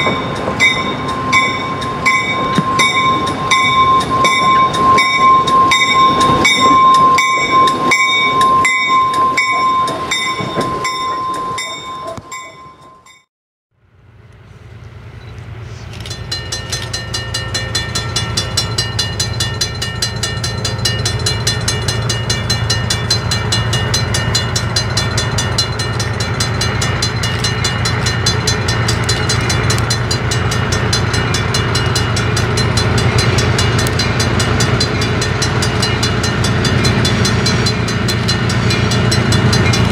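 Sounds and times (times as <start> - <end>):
diesel locomotive running: 0.0 - 13.2, 13.8 - 39.9
crossing bell ringing rapidly: 0.0 - 13.3, 16.1 - 39.9
locomotive bell ringing: 0.0 - 13.3, 15.9 - 39.9.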